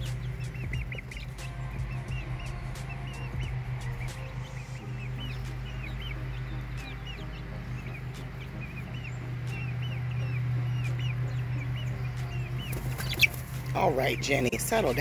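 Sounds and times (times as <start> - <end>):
steady low hum: 0.0 - 15.0
young chickens peeping: 0.0 - 15.0.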